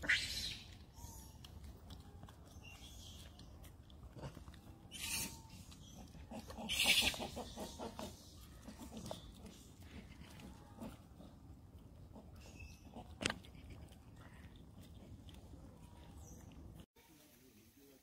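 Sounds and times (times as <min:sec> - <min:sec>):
wet chewing and lip-smacking: 0:00.6 - 0:06.6, 0:07.9 - 0:16.8.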